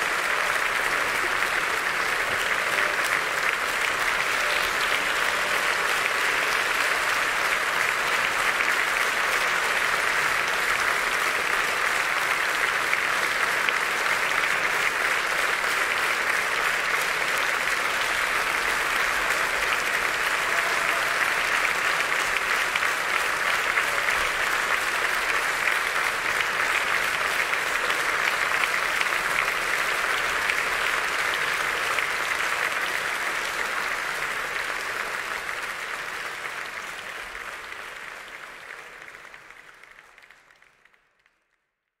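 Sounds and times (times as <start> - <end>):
audience applauding: 0.0 - 41.9.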